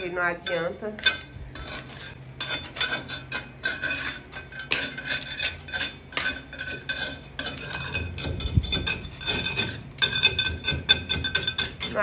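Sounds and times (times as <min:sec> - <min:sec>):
putty knife scraping plaster: 0:00.5 - 0:12.0.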